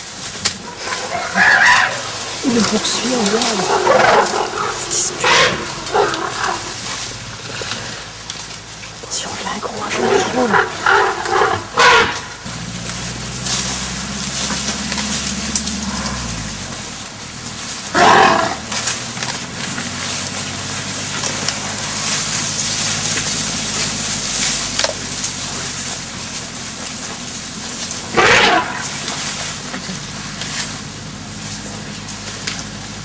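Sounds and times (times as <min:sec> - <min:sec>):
elephants calling: 0:00.0 - 0:33.0
vehicle engine humming: 0:00.0 - 0:33.0.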